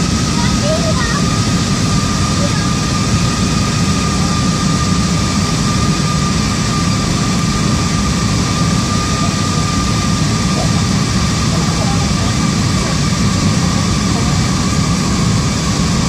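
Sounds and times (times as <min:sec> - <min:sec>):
low rumble of engines and airflow: 0:00.0 - 0:16.0
thin steady whine: 0:00.0 - 0:16.0.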